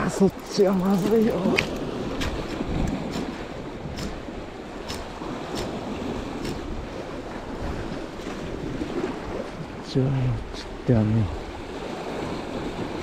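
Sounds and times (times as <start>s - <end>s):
waves breaking on rocks: 0.0s - 13.0s
wind buffeting microphone: 0.0s - 13.0s.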